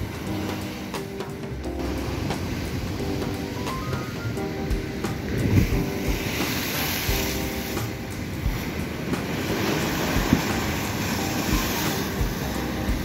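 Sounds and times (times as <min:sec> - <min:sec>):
waves washing against embankment: 0:00.0 - 0:13.0.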